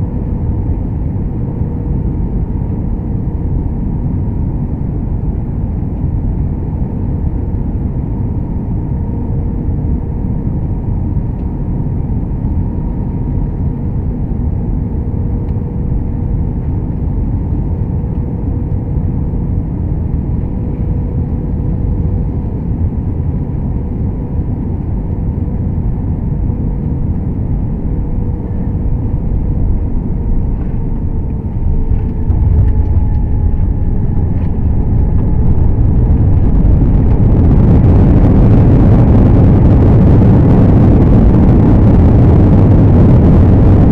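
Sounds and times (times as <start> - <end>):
faint steady hum: 0.0 - 43.9
jet engine and airflow rumble: 0.0 - 43.9.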